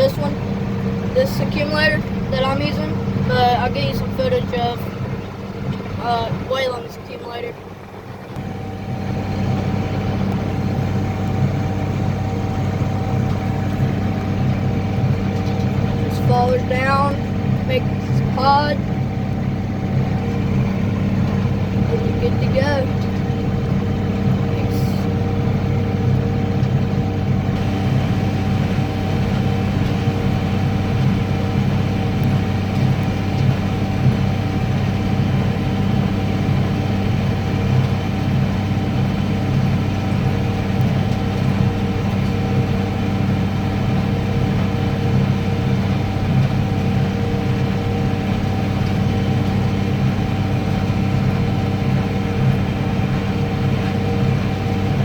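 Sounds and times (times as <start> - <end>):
baler high whine: 0.0 - 55.0
tractor engine droning: 0.0 - 55.0.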